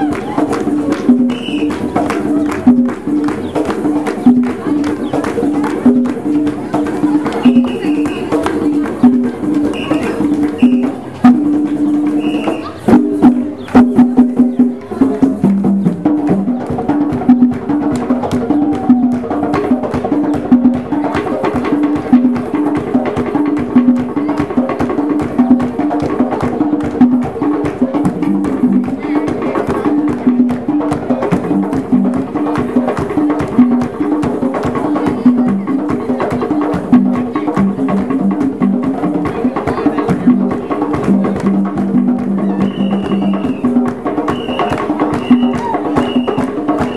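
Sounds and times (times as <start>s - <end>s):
crowd clapping along: 0.0s - 11.0s, 11.6s - 22.5s, 24.4s - 34.0s, 39.6s - 46.9s
hand drums fast rhythm: 0.0s - 46.9s.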